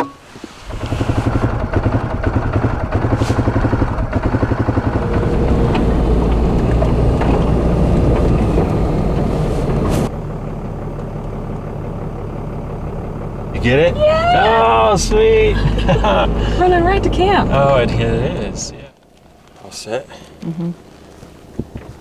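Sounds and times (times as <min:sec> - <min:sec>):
quad engine running: 0:00.6 - 0:18.8.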